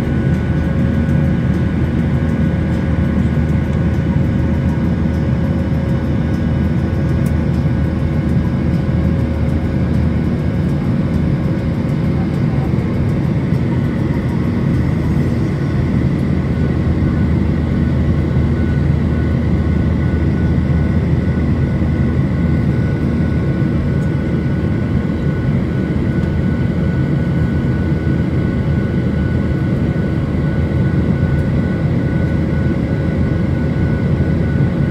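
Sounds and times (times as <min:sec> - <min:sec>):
jet cabin engine drone: 0:00.0 - 0:34.9.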